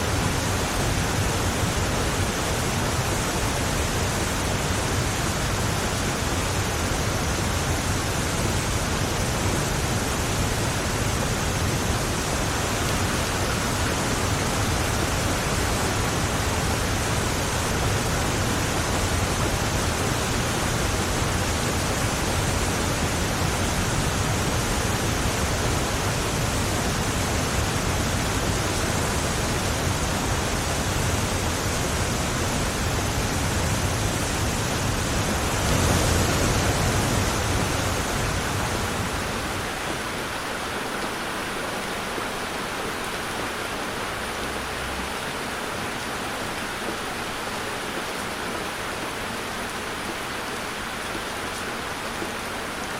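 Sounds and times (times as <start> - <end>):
heavy rain on a car: 0.0 - 52.9.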